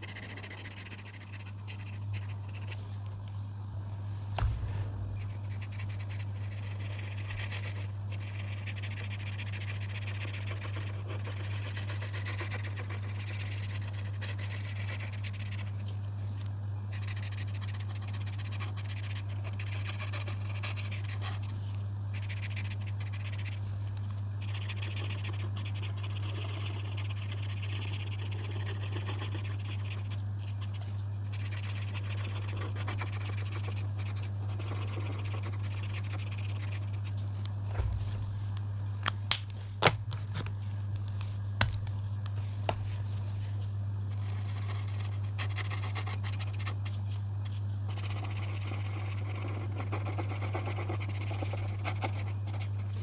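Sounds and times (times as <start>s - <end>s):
colouring strokes scratching paper: 0.0s - 2.9s, 4.3s - 15.8s, 16.9s - 23.8s, 24.4s - 37.2s, 42.4s - 53.0s
steady low hum: 0.0s - 53.0s.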